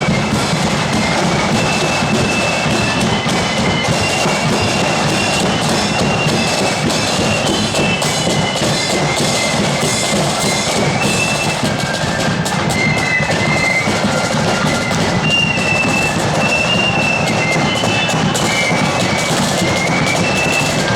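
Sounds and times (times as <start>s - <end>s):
flutes playing melody: 0.0s - 20.9s
side drums: 0.0s - 20.9s.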